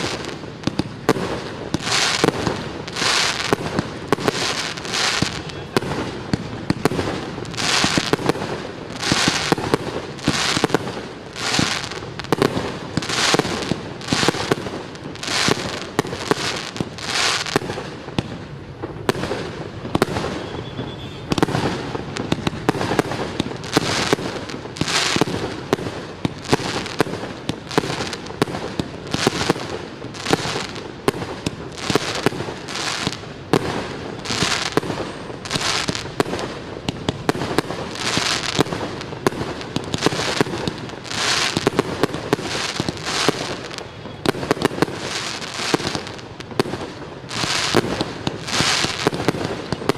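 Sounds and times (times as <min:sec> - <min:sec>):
fireworks crackling bursts: 0:00.0 - 0:49.9.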